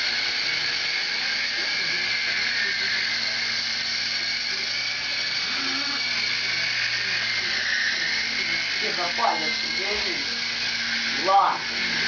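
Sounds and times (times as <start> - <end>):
high-pitched mechanical whine: 0.0 - 12.0.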